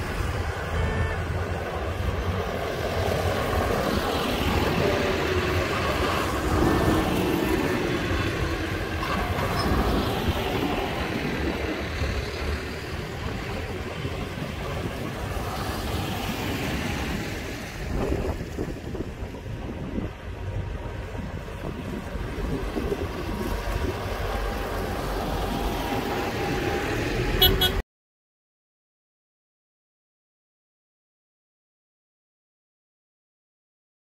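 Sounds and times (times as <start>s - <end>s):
diesel tractors driving past: 0.0s - 27.8s.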